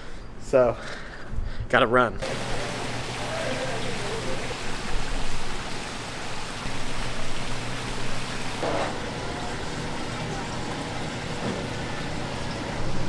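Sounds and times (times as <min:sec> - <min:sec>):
water rushing and splashing: 0:02.2 - 0:13.0.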